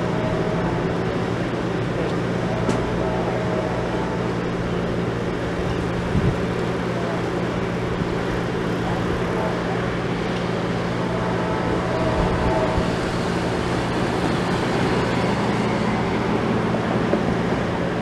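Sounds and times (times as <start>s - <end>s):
constant rushing noise: 0.0s - 18.0s.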